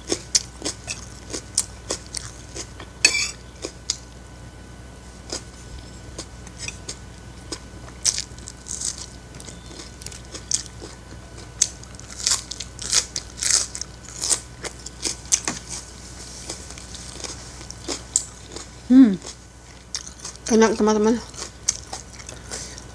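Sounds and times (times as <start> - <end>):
person crunching cabbage leaf: 0.0 - 4.1, 5.2 - 20.6, 21.2 - 22.9.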